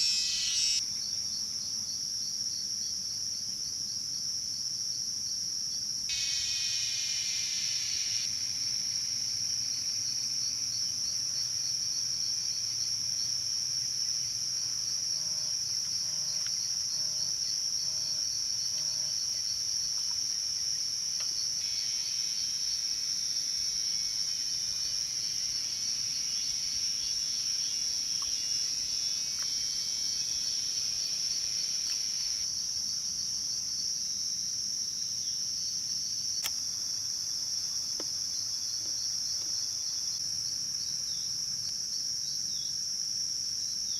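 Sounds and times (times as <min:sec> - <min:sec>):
insects trilling: 0:00.0 - 0:03.0, 0:04.9 - 0:43.9.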